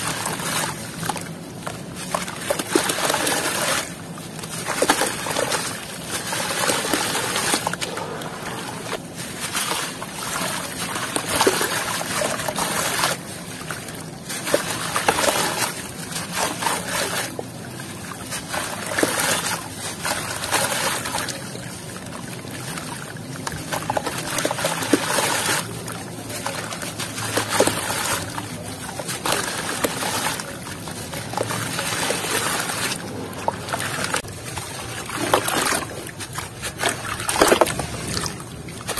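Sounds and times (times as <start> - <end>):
water splashing and trickling: 0.0 - 38.9
wet squelching: 0.0 - 38.9.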